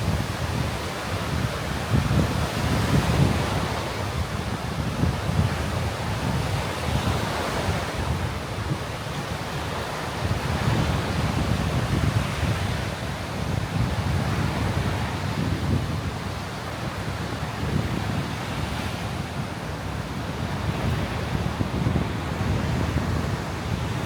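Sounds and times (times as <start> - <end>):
wind gusting across microphone: 0.0 - 24.0.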